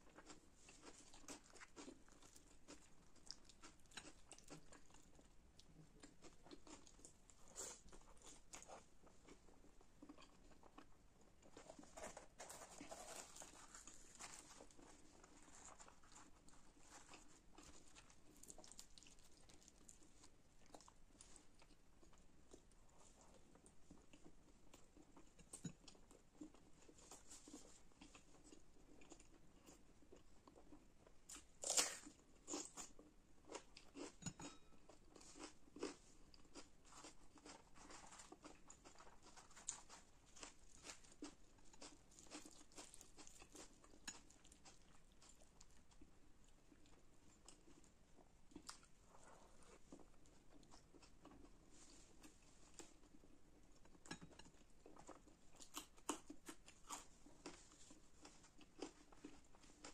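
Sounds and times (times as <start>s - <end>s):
crackle of food: 0.0s - 59.9s
person chewing food: 0.0s - 59.9s.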